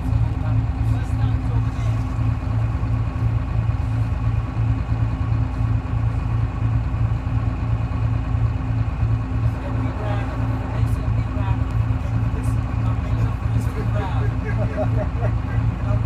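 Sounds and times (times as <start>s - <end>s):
diesel bus engine droning: 0.0s - 16.0s.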